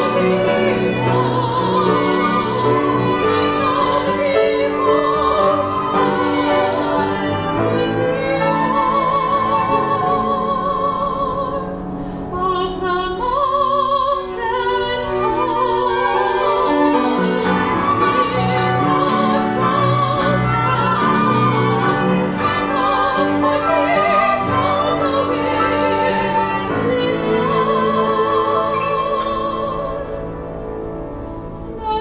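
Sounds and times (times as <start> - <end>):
chamber ensemble playing: 0.0 - 11.0, 15.0 - 30.2
woman singing with vibrato: 0.0 - 30.3, 31.6 - 32.0.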